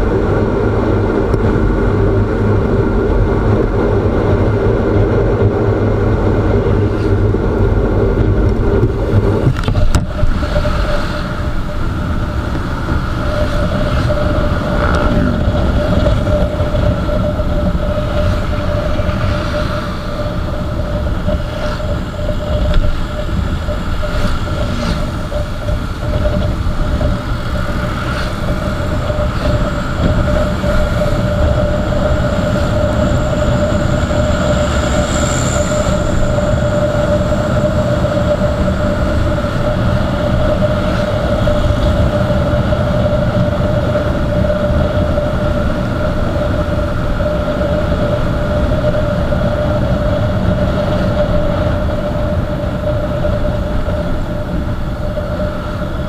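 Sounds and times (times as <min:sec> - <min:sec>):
low wind: 0:00.0 - 0:56.0
motorcycle engine drone: 0:00.0 - 0:56.0
road rumble: 0:00.0 - 0:56.0.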